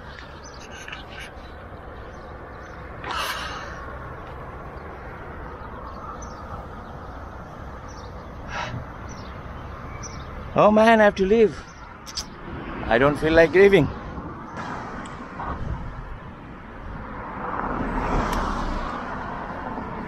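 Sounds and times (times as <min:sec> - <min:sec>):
roadside outdoor noise: 0:00.0 - 0:20.0.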